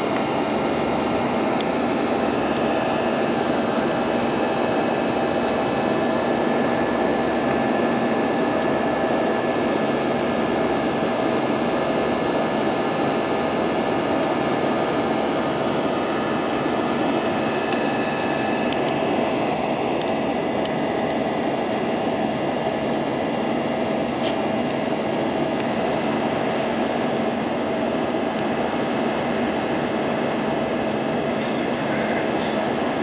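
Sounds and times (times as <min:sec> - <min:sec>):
aircraft cabin drone: 0:00.0 - 0:33.0.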